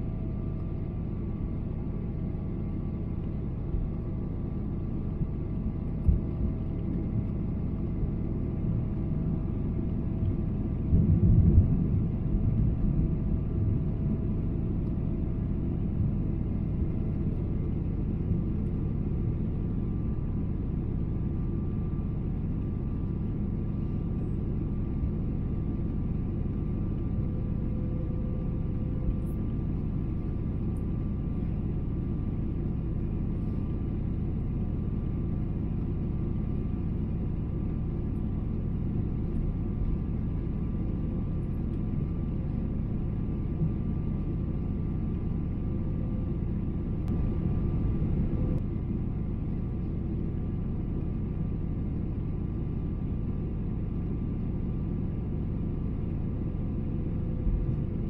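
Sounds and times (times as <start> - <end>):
jet engine rumble: 0.0 - 58.0.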